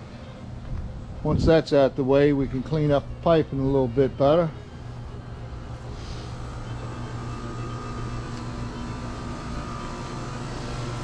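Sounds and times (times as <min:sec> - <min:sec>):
faint high whine: 0:00.0 - 0:11.0
low machine hum: 0:00.0 - 0:11.0.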